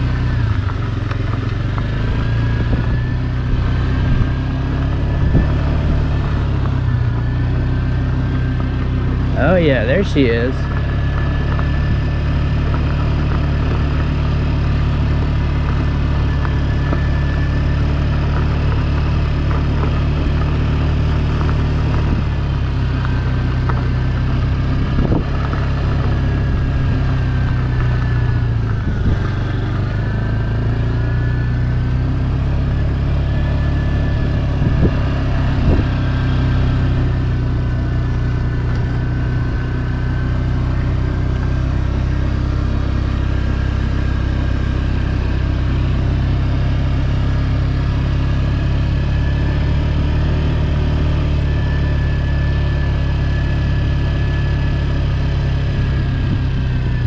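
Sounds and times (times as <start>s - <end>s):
moped engine running: 0.0s - 57.0s.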